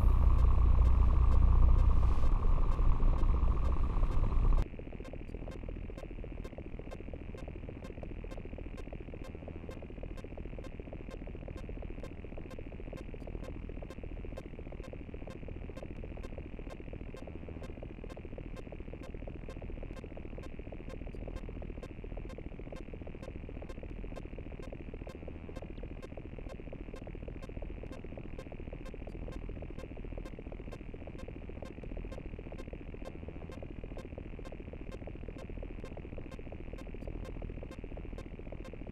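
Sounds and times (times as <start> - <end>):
electronic buzzing and static: 0.0 - 4.6, 6.3 - 38.9
rapid glitch clicks: 0.1 - 38.9.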